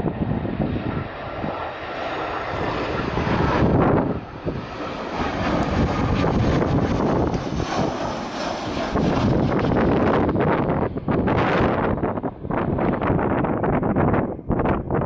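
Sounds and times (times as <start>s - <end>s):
aircraft engines roaring: 0.0s - 15.0s
wind rumble on microphone: 0.0s - 15.0s.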